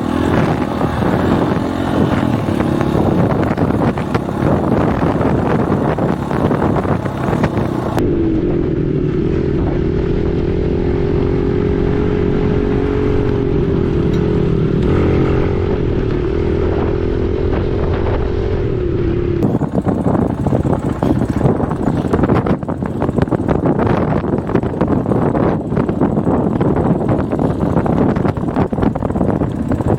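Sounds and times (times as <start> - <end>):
dirt bike engine running: 0.0 - 29.9
wind buffeting microphone: 0.0 - 29.9.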